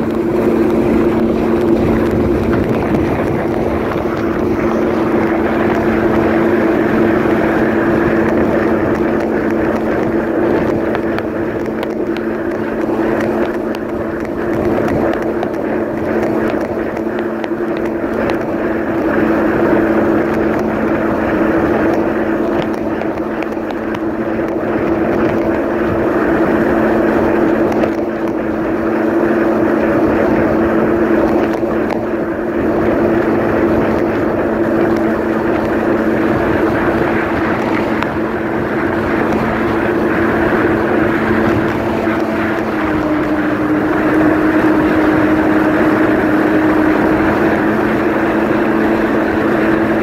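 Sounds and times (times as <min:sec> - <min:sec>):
water rushing past hull: 0:00.0 - 0:50.0
watercraft engine drone: 0:00.0 - 0:50.0.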